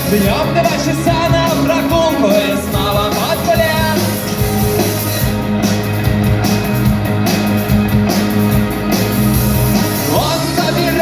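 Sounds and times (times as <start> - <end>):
rock music instrumental: 0.0 - 11.0.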